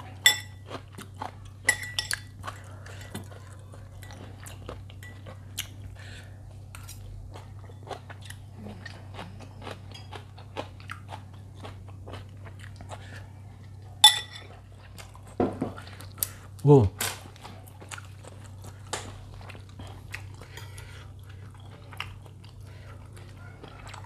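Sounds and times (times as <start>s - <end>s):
chewing noodles: 0.0s - 16.6s, 17.3s - 24.0s.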